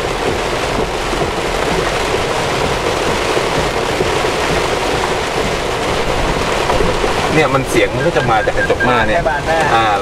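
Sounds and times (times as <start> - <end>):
heavy rain on windshield: 0.0 - 10.0.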